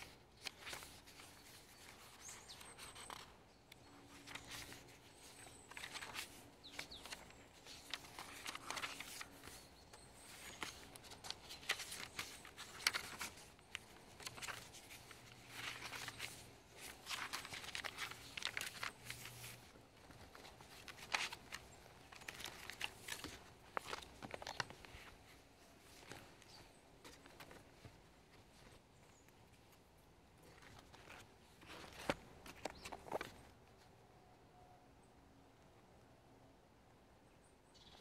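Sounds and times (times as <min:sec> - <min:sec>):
paper pages rustling: 0:00.0 - 0:29.1, 0:30.4 - 0:33.5.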